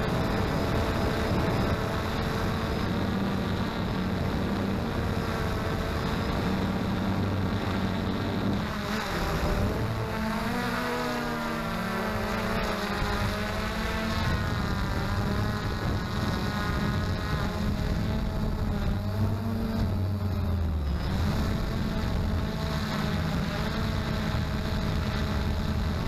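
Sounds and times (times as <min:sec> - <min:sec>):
drone propellers droning: 0:00.0 - 0:26.0
wind noise on microphone: 0:00.0 - 0:26.0.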